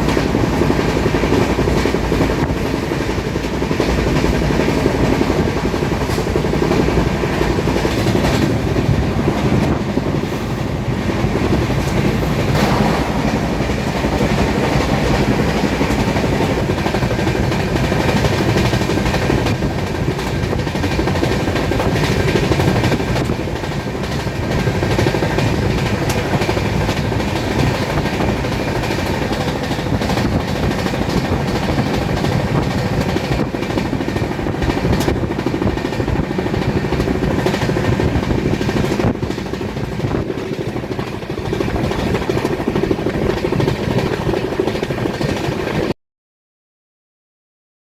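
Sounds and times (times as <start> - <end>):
rail joint clicks: 0.0 - 45.9
train wheels rumbling on rails: 0.0 - 46.0.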